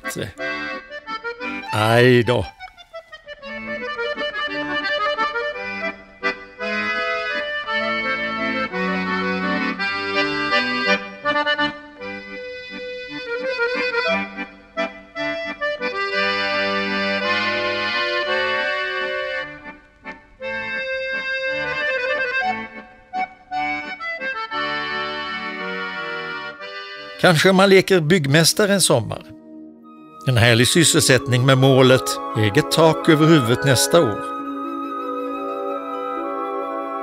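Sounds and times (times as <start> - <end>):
accordion music: 0.0 - 37.0.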